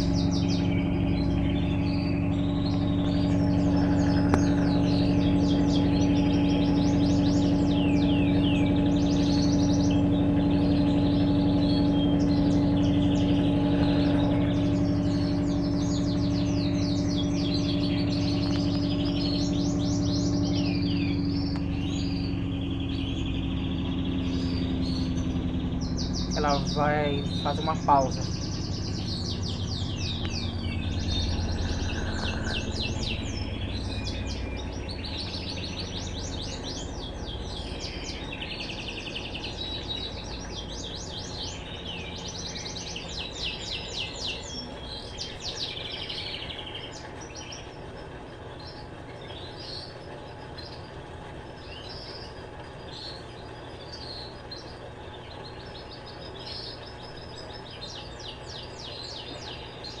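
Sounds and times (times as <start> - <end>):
small birds chirping: 0.0 - 60.0
washing machine hum: 0.0 - 60.0.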